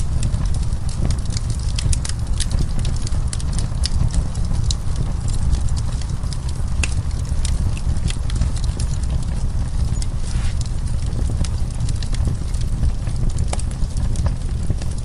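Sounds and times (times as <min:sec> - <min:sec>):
burning wood crackling and popping: 0:00.0 - 0:15.0
low rumble of flame: 0:00.0 - 0:15.0.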